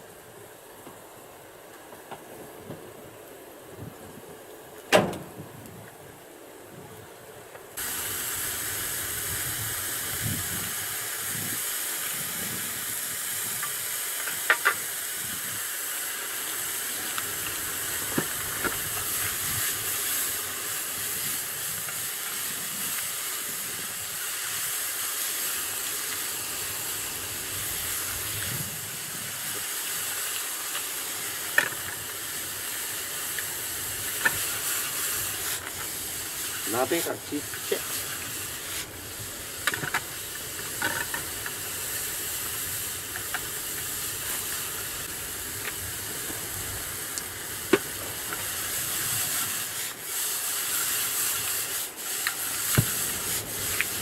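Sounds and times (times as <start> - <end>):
gas burner hissing: 0.0 - 54.0.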